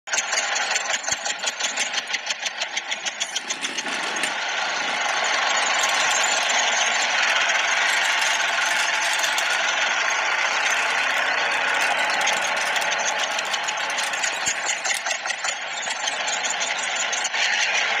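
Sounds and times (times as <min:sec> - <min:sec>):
tractor engine chugging: 0:00.1 - 0:18.0.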